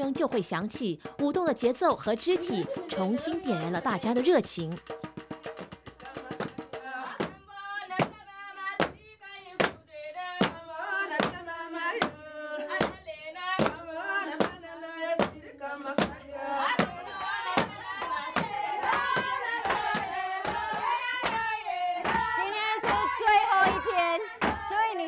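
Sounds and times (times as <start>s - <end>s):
women singing: 0.0s - 4.8s, 5.8s - 25.0s.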